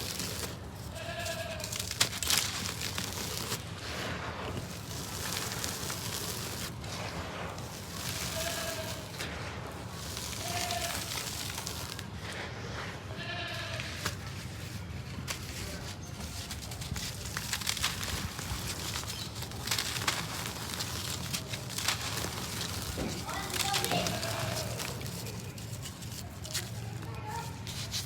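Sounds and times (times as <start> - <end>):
dry cement crumbling: 0.0 - 28.0.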